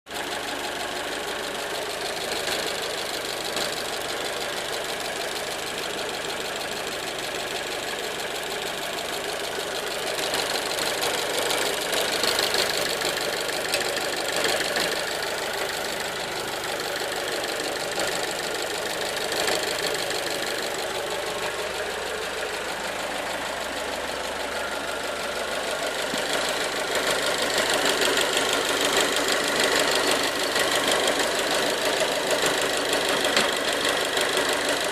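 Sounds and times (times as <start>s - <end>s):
petrol engine running: 0.1s - 34.9s.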